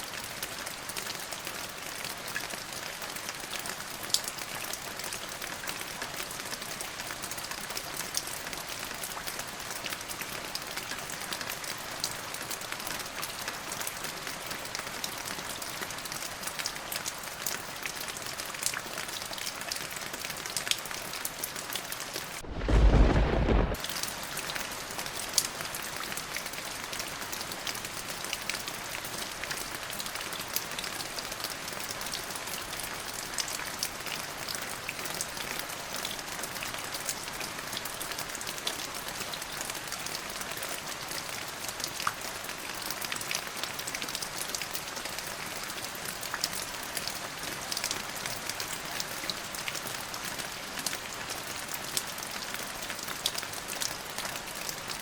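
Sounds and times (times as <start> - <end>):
raindrops ticking close by: 0.0 - 55.0
steady rain hiss: 0.0 - 55.0.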